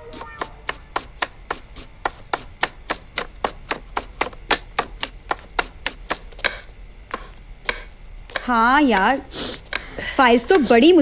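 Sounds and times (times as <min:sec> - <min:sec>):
knife chopping on wooden board: 0:00.1 - 0:09.1.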